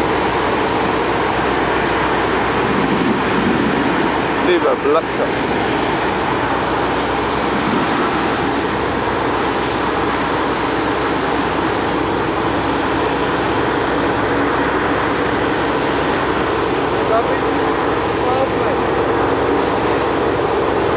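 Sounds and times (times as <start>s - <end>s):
water jet rushing from pipe: 0.0s - 20.9s.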